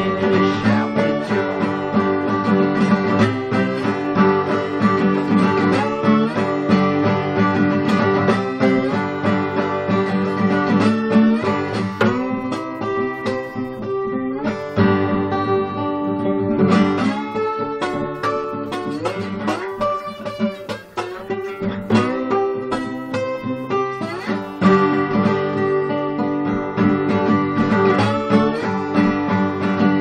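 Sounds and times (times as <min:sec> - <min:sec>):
acoustic guitar blues: 0:00.0 - 0:30.0.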